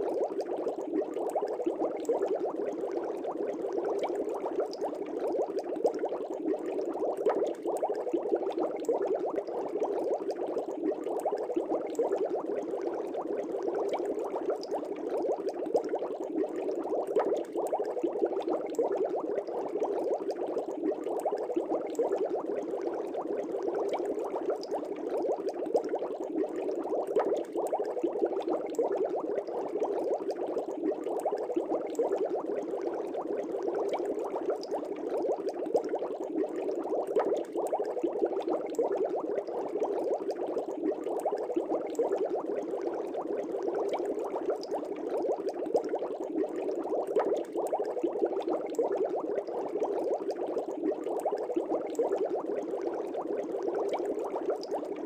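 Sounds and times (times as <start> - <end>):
air bubbling in aquarium water: 0.0 - 55.0.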